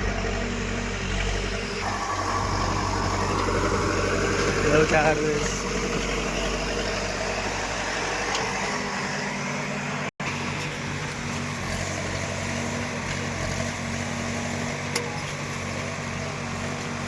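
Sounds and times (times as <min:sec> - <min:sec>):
heavy machine engine under load: 0:00.0 - 0:17.0.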